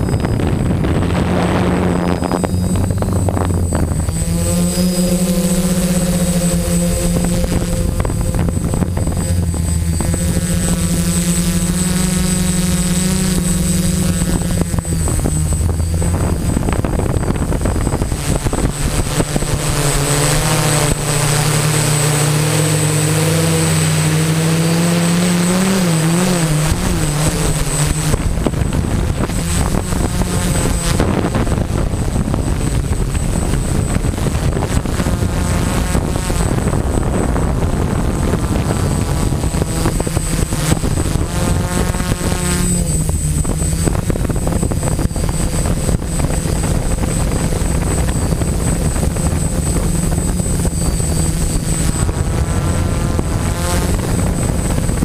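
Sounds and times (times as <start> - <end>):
drone motors and propellers buzzing: 0.0 - 55.0
rough rushing noise: 0.0 - 55.0
thin high whine: 0.0 - 55.0.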